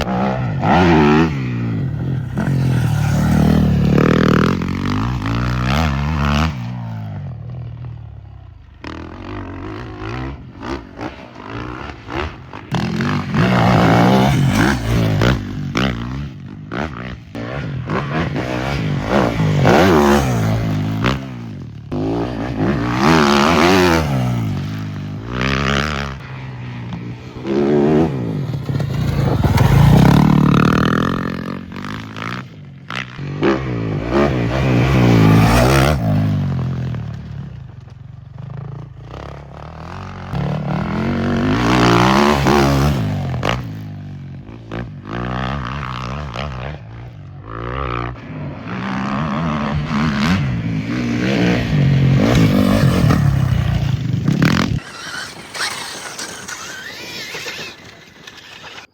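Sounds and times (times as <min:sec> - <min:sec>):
dirt bike engines revving: 0:00.0 - 0:07.8, 0:08.5 - 0:58.9.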